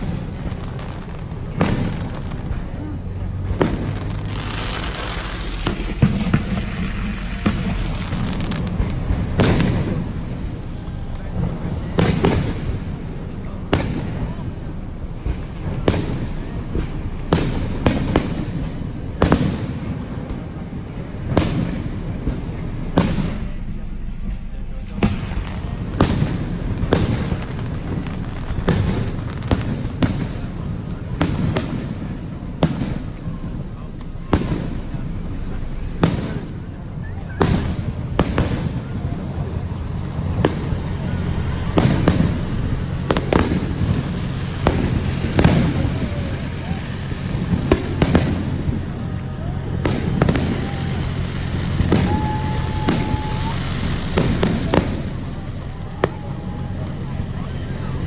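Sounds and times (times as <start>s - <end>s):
fireworks bangs: 0.0s - 58.0s
low rumble: 0.0s - 58.0s.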